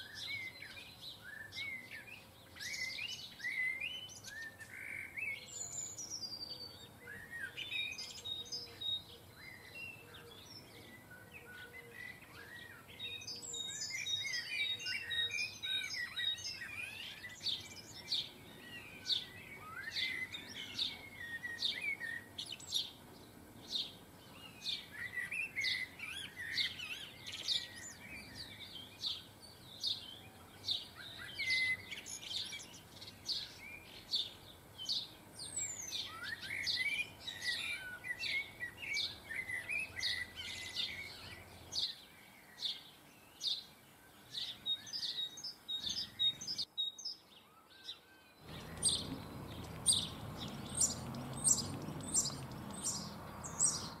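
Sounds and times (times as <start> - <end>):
low steady background noise: 0.0 - 54.0
small birds chirping: 0.0 - 54.0.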